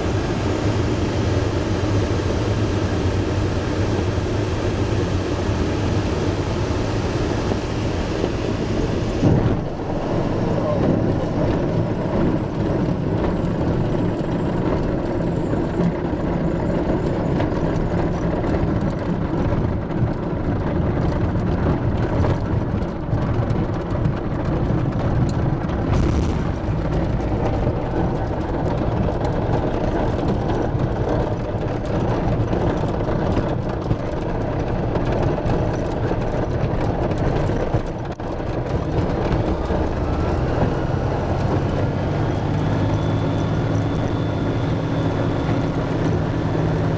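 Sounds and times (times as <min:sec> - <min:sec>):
plane cockpit rumble: 0:00.0 - 0:46.9.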